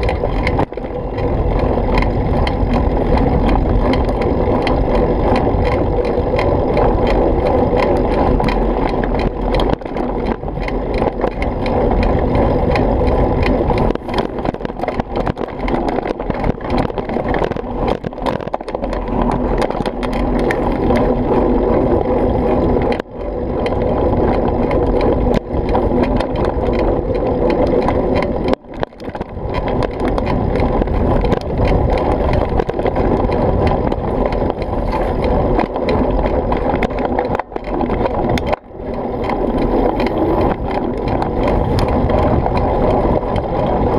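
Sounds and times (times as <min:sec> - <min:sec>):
bike rattling over rocks: 0:00.0 - 0:43.9
bike tyres rumbling on dirt: 0:00.0 - 0:43.9
wind on microphone: 0:00.0 - 0:43.9.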